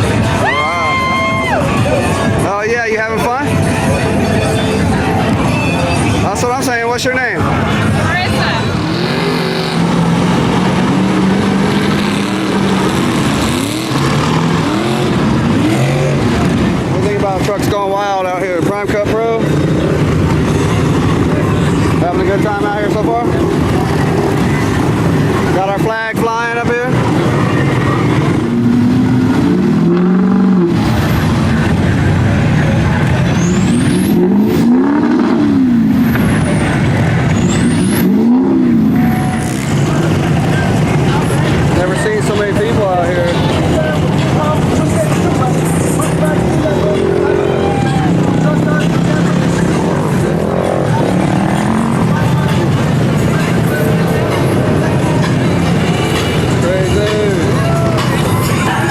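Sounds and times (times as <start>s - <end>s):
truck engines droning: 0.0s - 58.9s
loud noise: 3.3s - 58.9s.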